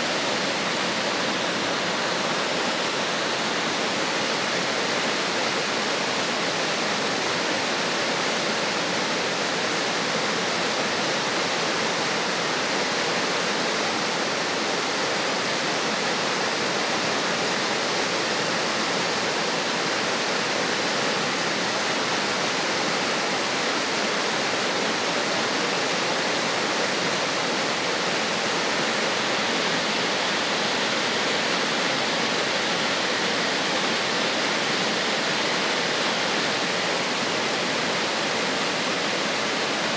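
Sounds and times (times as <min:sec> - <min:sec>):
river water rushing over boulders: 0:00.0 - 0:39.9.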